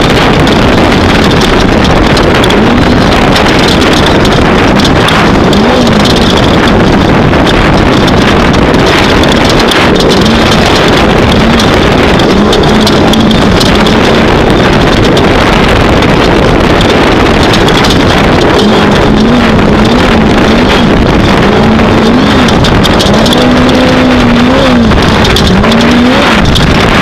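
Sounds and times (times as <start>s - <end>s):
race vehicle engine revving: 0.0s - 27.0s
wind rush and running noise: 0.0s - 27.0s.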